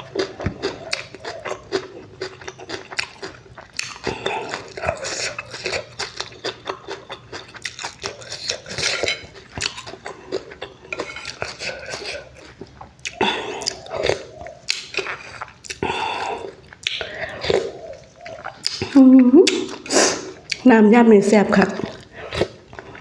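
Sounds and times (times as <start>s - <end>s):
wet chewing and mouth smacking: 0.0s - 20.6s, 21.7s - 23.0s.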